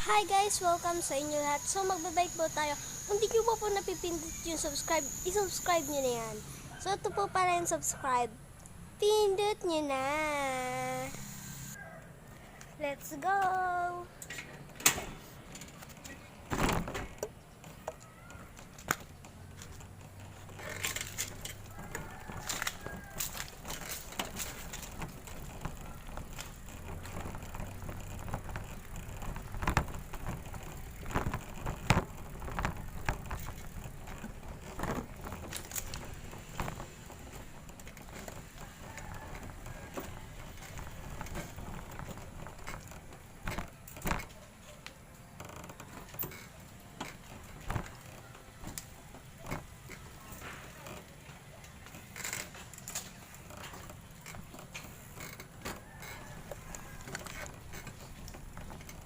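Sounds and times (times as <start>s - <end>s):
bicycle clicks and rattles: 0.0s - 7.0s, 9.4s - 59.0s
bicycle rumbling: 0.0s - 59.0s.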